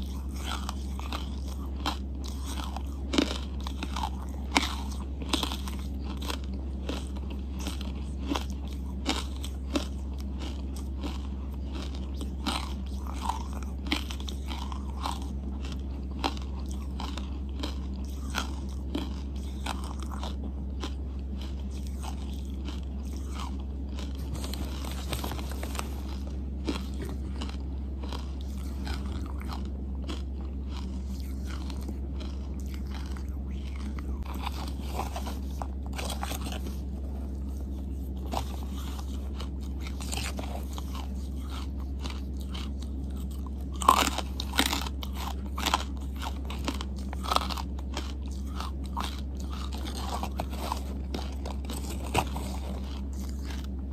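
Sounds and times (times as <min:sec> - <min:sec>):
close chewing with crunches: 0:00.0 - 0:53.9
steady low hum: 0:00.0 - 0:53.9.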